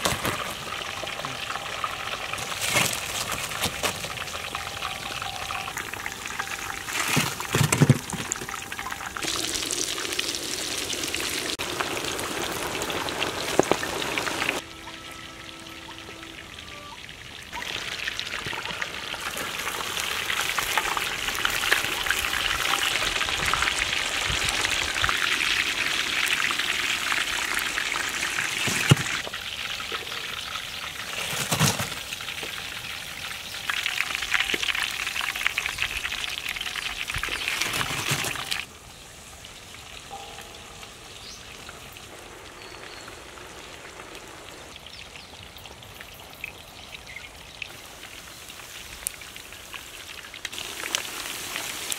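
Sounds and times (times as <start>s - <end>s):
chicken sizzling in hot oil: 0.0s - 16.3s, 17.0s - 51.9s.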